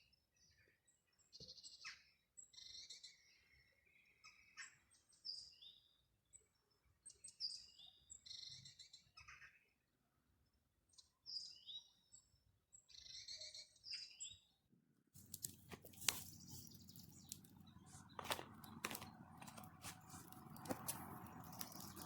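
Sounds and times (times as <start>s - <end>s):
small songbird chirping: 0.4s - 9.0s, 11.0s - 14.5s, 15.2s - 22.0s.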